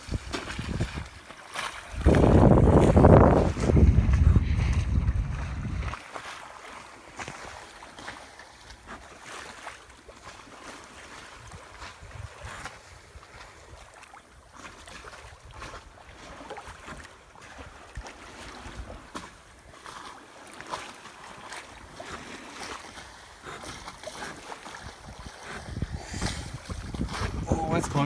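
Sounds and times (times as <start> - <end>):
water lapping against hull: 0.0 - 28.0.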